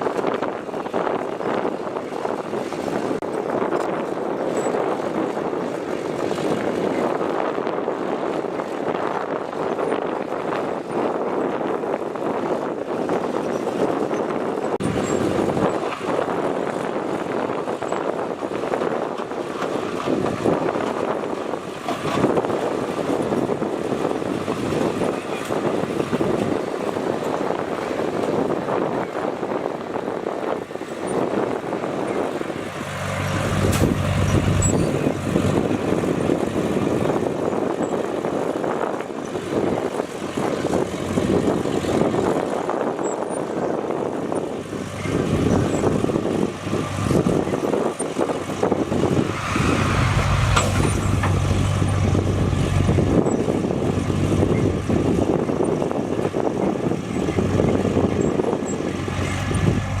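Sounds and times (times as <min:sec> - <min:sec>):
bulldozer diesel engine under load: 0:00.0 - 1:00.0.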